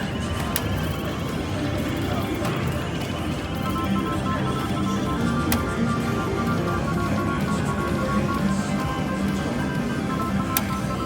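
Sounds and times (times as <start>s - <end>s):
slot machine beeping jingle: 0.0s - 11.0s.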